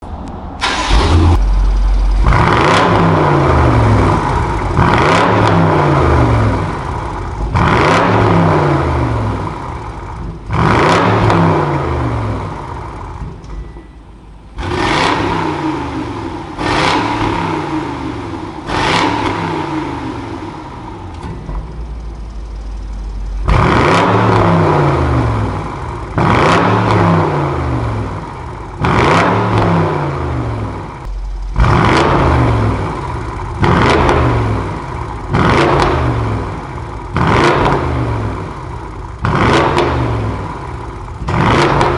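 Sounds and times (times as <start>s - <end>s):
car engine revving: 0.6s - 13.3s, 14.5s - 41.9s.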